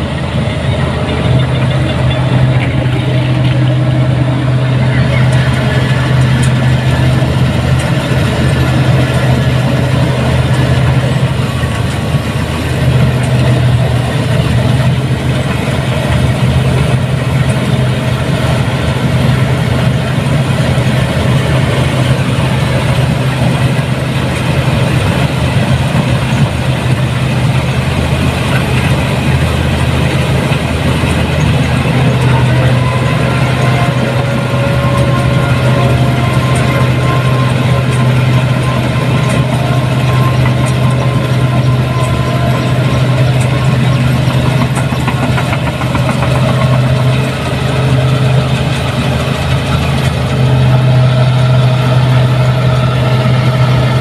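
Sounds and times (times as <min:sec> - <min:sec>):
combine harvester engine humming: 0:00.0 - 0:54.0.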